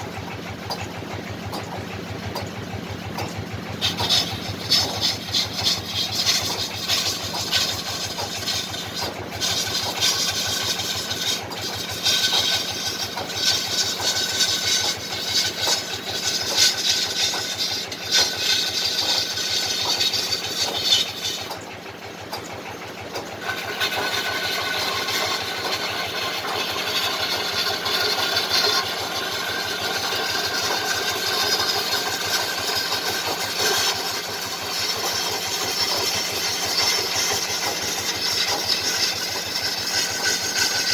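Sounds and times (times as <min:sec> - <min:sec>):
lathe motor running: 0:00.0 - 0:40.9
chisel rasping on spinning wood: 0:03.6 - 0:40.9.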